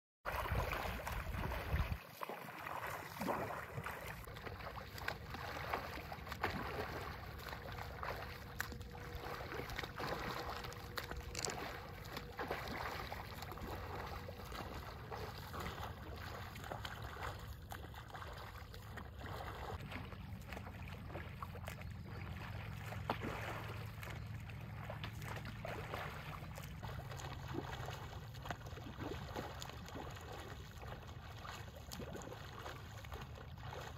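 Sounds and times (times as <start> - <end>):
swimmer splashing: 0.3 - 33.9
water lapping against paddle board: 0.3 - 33.9.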